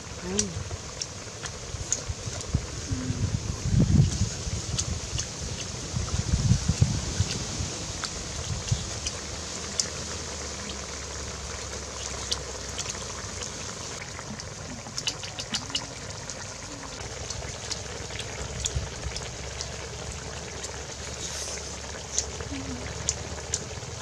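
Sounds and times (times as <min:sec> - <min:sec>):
people eating with clicks and crunches: 0:00.0 - 0:03.0, 0:03.9 - 0:24.0
steady outdoor hiss: 0:00.0 - 0:24.0.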